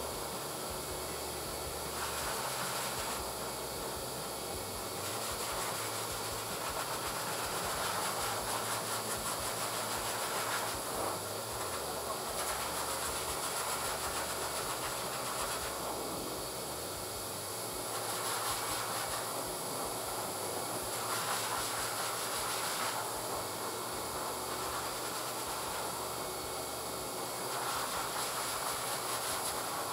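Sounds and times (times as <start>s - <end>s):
pet dryer blowing air: 0.0s - 29.9s.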